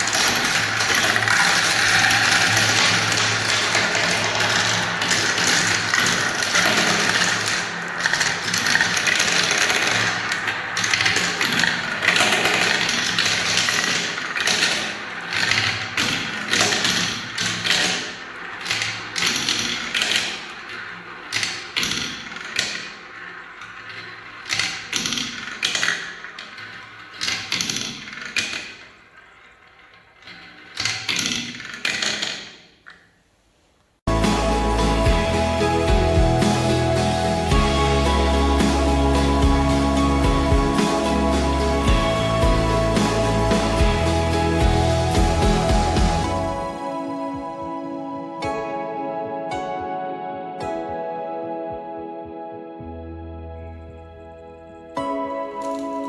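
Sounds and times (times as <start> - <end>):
balls rolling down marble run: 0.0 - 33.2, 34.1 - 47.5, 54.7 - 56.0.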